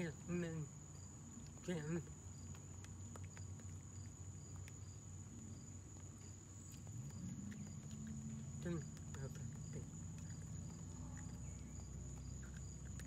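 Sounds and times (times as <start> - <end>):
insect chirps: 0.0 - 13.0
insect chorus buzzing: 0.0 - 13.0
low steady hum: 0.0 - 13.0.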